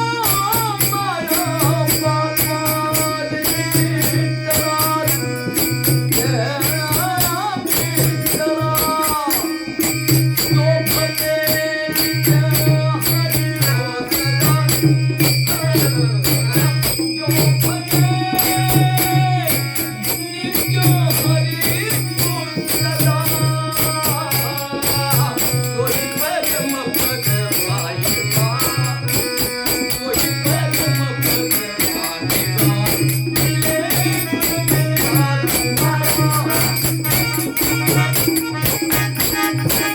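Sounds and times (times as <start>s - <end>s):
fast jingling percussion: 0.0s - 39.9s.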